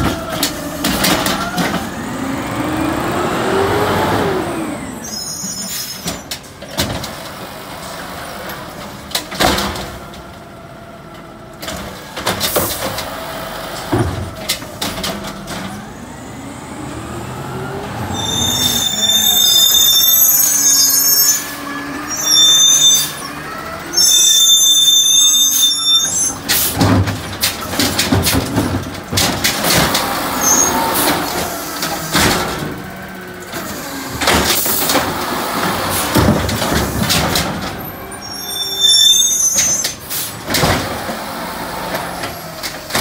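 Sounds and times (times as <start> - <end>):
diesel engine revving: 0.0 - 5.4, 10.0 - 24.8, 25.4 - 38.9, 40.0 - 43.0
brakes squealing: 0.0 - 9.4, 12.0 - 43.0.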